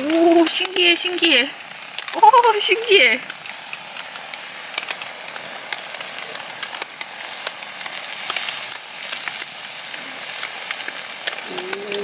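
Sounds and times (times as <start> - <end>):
fat crackling and popping: 0.0 - 12.0
steak sizzling on a grill: 0.0 - 12.0.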